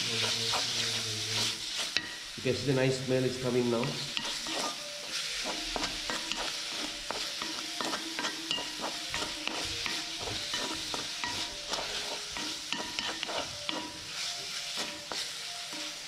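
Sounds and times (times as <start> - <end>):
wooden spatula scraping pan: 0.0 - 2.2, 3.9 - 16.0
food sizzling in pan: 0.0 - 16.0.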